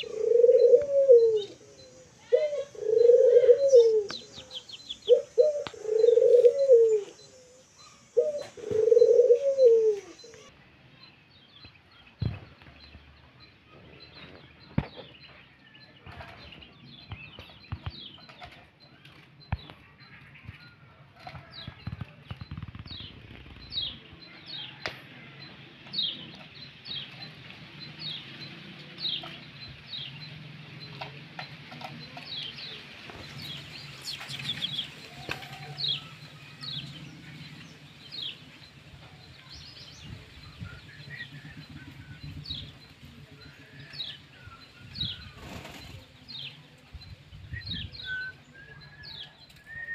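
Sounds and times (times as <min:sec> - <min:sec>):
bird chirps: 0:00.0 - 0:49.9.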